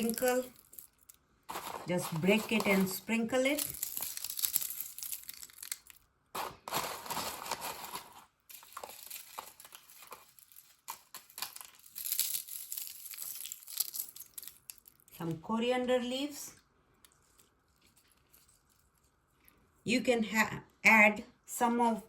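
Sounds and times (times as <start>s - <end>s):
crackers crunching: 0.0s - 15.2s, 16.9s - 19.6s.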